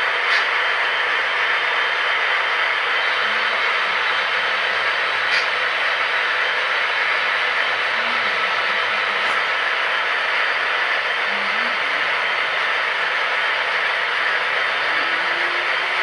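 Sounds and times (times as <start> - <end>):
model trains rolling on track: 0.0 - 16.0.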